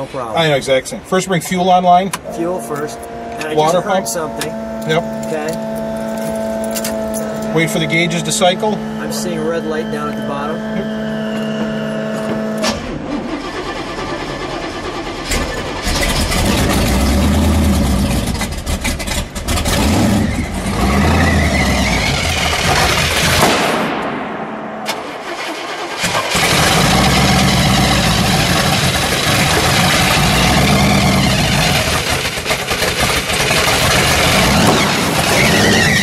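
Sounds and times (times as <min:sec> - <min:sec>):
car engine cranking and firing up: 0:01.0 - 0:36.0
car engine revving loudly: 0:02.2 - 0:24.0, 0:24.7 - 0:36.0.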